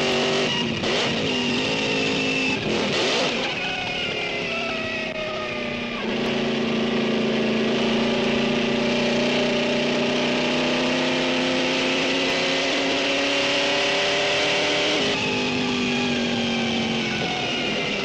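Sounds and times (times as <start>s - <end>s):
racing engine running hard: 0.0s - 18.0s.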